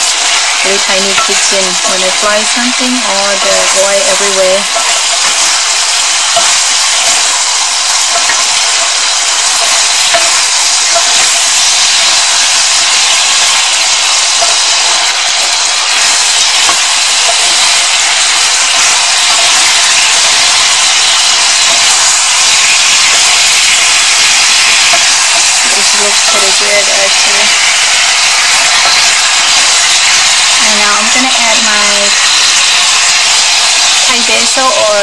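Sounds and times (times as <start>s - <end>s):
bones frying in hot oil: 0.0s - 35.0s.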